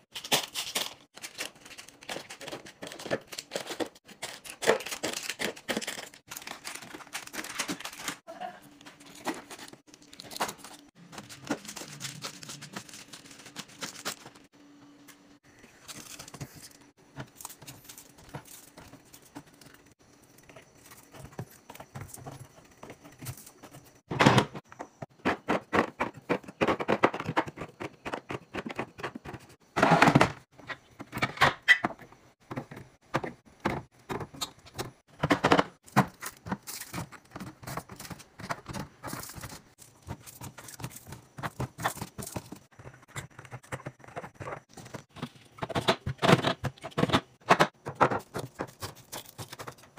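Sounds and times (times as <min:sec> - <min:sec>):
paper cartons tapping and scraping: 0:00.2 - 0:08.3, 0:08.9 - 0:14.5, 0:15.8 - 0:31.4, 0:32.2 - 0:49.9.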